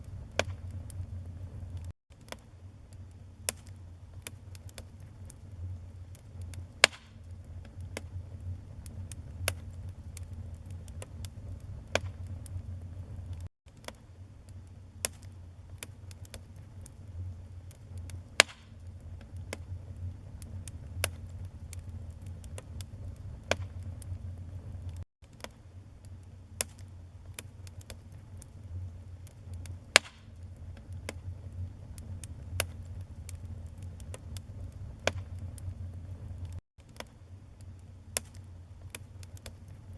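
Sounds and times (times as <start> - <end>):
low steady rumble: 0.0 - 1.9, 2.5 - 13.5, 14.1 - 25.0, 25.7 - 36.6
wood fire crackling: 0.0 - 39.9.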